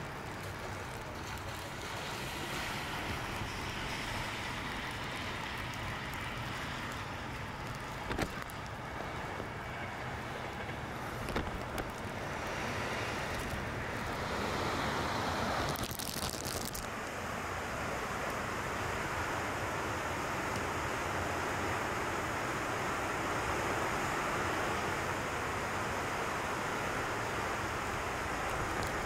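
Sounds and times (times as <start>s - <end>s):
rain with sharp ticks: 0.0s - 29.0s
wind: 0.0s - 29.0s.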